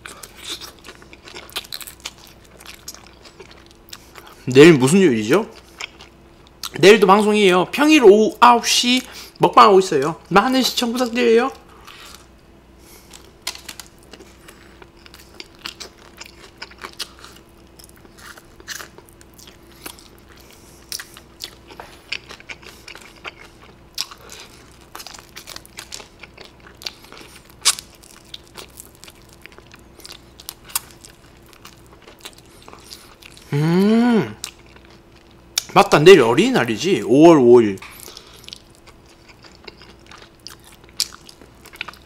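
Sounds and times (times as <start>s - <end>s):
crunching fried chicken: 0.0s - 7.3s, 12.9s - 36.0s, 37.6s - 42.0s
faint steady hum: 0.0s - 42.0s.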